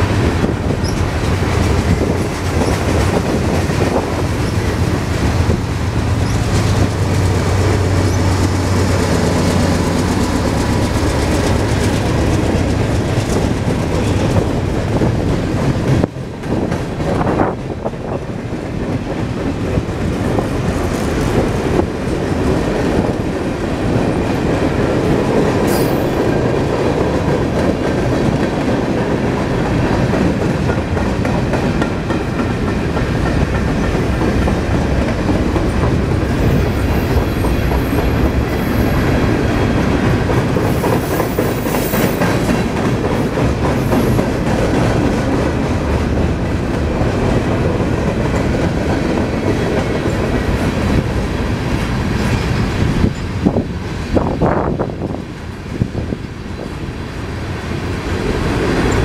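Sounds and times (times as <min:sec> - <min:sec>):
wheels clacking over rail joints: 0:00.0 - 0:54.4
freight train rumbling: 0:00.0 - 0:59.0.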